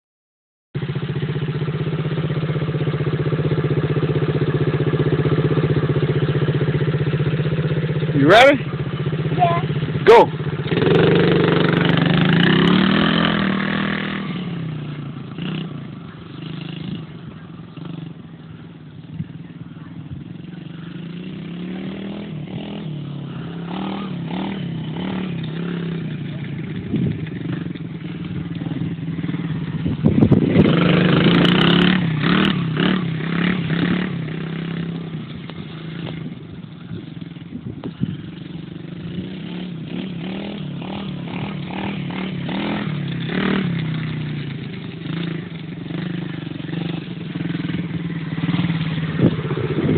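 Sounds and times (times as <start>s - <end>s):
dirt bike engine running: 0.8s - 49.9s.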